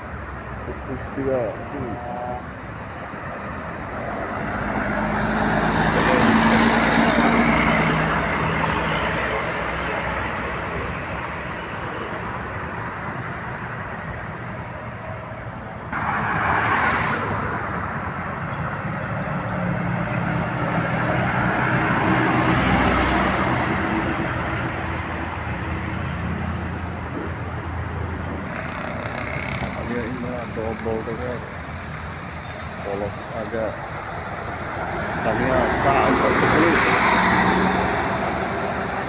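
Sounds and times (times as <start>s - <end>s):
heavy vehicles passing: 0.0s - 39.0s.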